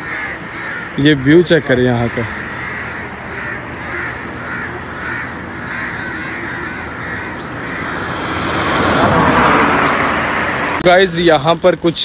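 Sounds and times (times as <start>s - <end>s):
crows cawing: 0.0s - 10.2s.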